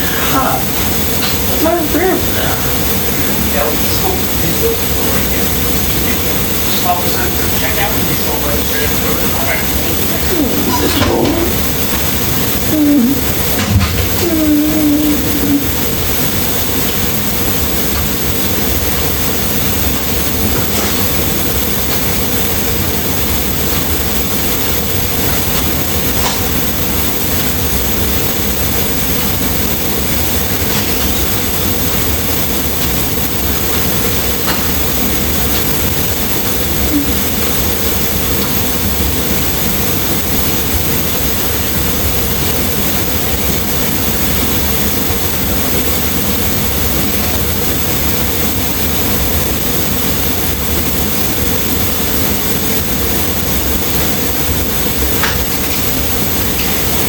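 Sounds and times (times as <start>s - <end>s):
constant hum: 0.0s - 57.0s
loud rumble and hiss: 0.0s - 57.0s.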